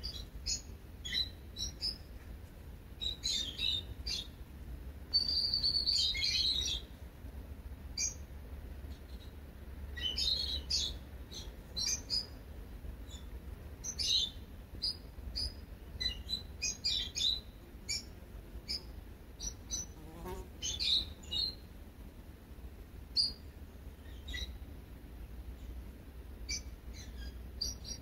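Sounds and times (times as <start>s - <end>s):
small birds chirping: 0.0s - 2.3s, 3.0s - 4.4s, 5.1s - 7.0s, 7.9s - 8.3s, 8.9s - 21.7s, 23.1s - 24.7s, 25.4s - 28.0s.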